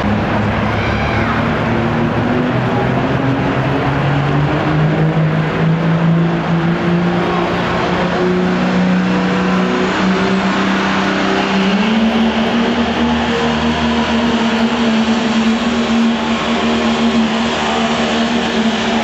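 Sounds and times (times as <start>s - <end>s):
diesel truck engine at high revs: 0.0s - 19.0s.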